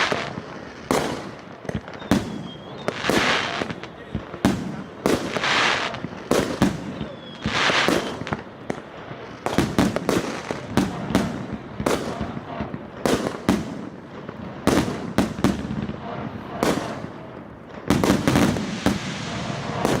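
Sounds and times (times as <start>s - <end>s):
fireworks hissing: 0.0s - 13.9s, 17.8s - 20.0s
fireworks bangs: 0.0s - 20.0s.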